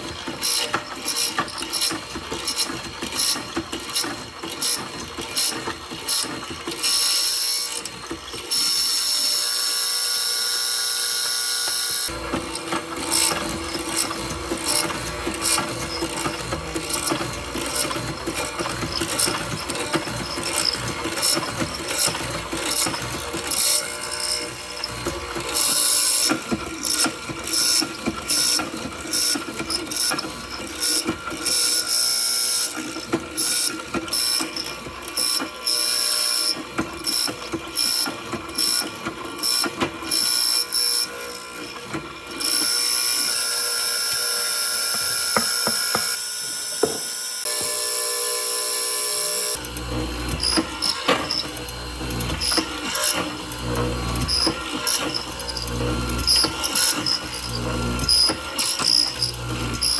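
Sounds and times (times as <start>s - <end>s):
tools clicking and scraping: 0.0s - 59.9s.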